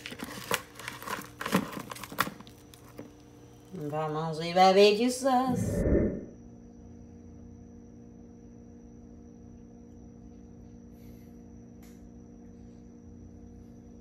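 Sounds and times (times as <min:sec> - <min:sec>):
low hum of held tones: 0:02.7 - 0:14.0.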